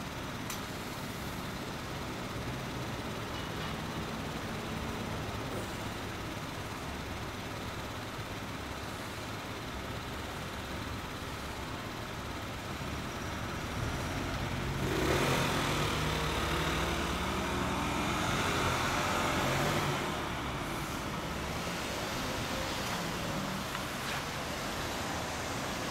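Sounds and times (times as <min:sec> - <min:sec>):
low traffic hum: 0:00.0 - 0:25.9.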